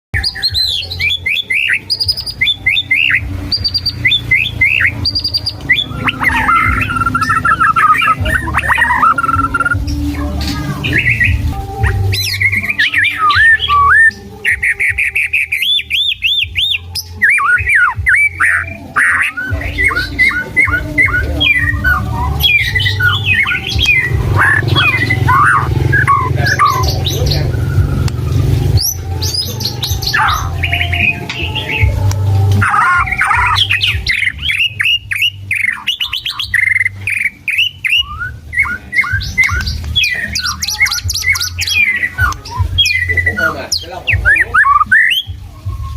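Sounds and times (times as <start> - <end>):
bird singing varied song: 0.1 - 45.9.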